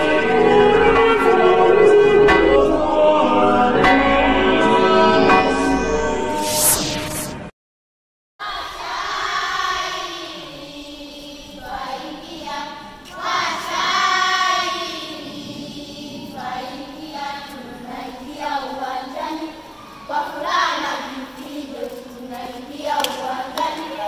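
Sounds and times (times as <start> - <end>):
children's choir singing: 0.0 - 6.0, 8.4 - 24.0.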